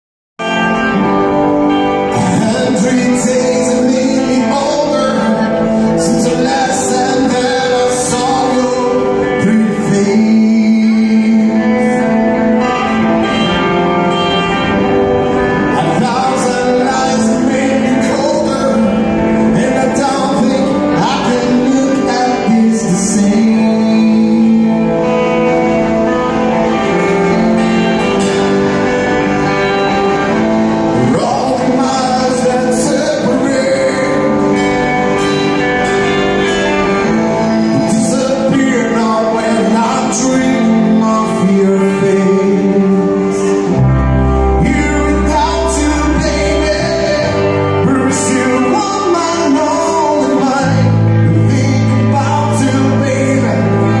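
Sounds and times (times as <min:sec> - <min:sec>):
live rock band playing: 0:00.4 - 0:54.0
man singing: 0:00.4 - 0:54.0
deep bass notes: 0:00.5 - 0:54.0.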